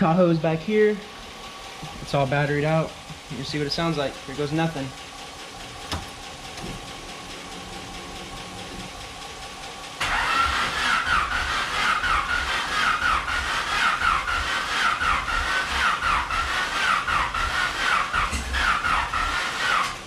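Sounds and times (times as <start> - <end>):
starter motor cranking engine: 0.0 - 20.0
steady low hum: 0.0 - 20.0.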